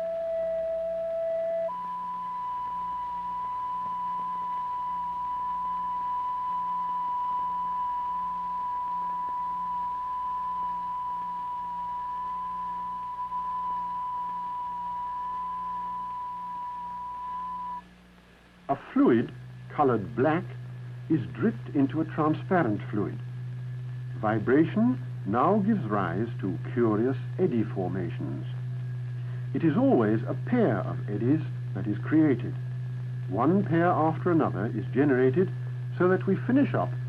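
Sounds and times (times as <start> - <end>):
steady sine tone: 0.0 - 37.0.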